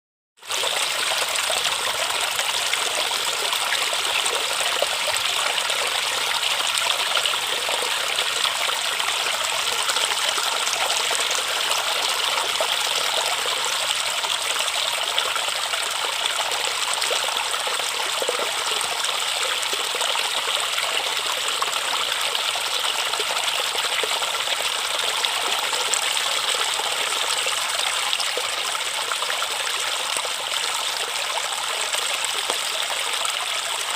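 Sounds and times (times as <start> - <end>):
river water flowing: 0.5 - 33.9.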